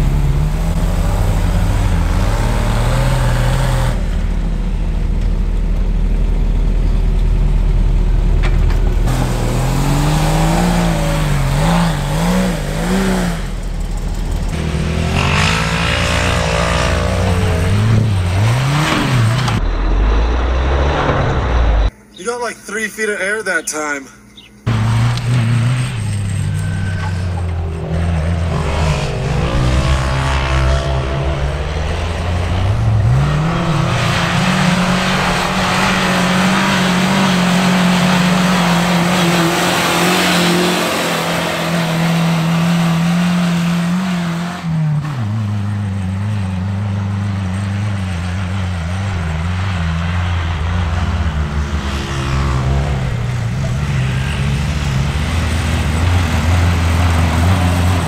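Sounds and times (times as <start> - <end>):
truck engine revving: 0.0 - 21.9, 24.7 - 58.0.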